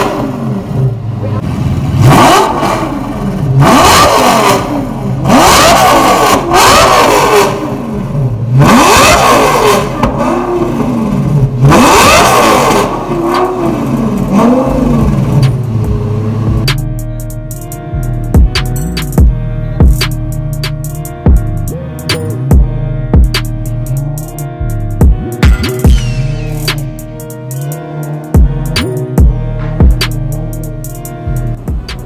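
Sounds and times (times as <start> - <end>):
sports car engine revving: 0.0 - 32.0.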